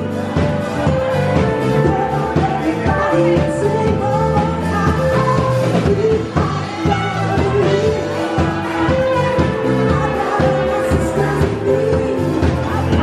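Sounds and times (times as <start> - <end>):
pop-rock song with singing: 0.0 - 13.0.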